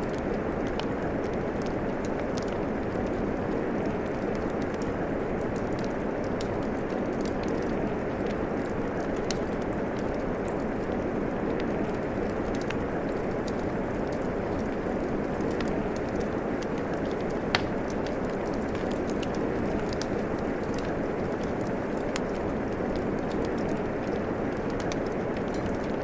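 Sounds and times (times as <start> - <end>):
crackling wood fire: 0.0 - 26.0
steady rain hiss: 0.0 - 26.0.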